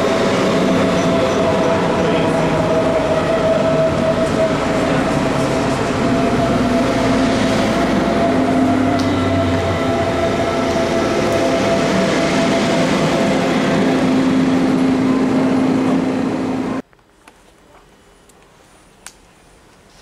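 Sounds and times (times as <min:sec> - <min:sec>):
electric train rumbling past: 0:00.0 - 0:16.8.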